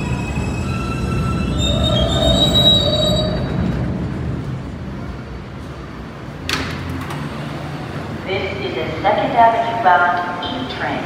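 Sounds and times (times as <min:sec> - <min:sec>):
subway train braking: 0:00.0 - 0:11.0.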